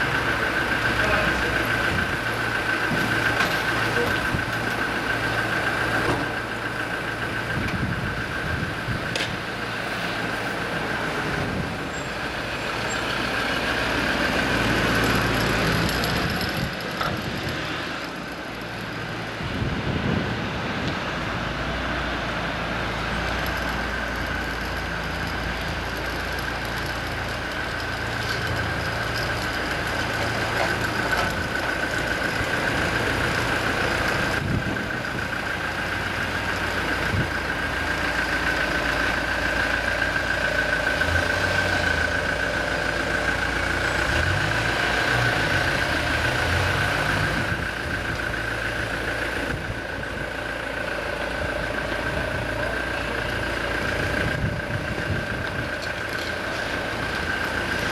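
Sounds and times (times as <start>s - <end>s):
engine running: 0.0s - 57.9s.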